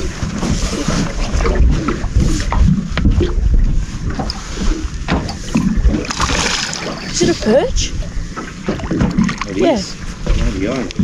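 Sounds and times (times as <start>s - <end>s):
water rumbling against boat hull: 0.0s - 11.0s
wind buffeting microphone: 0.0s - 11.0s.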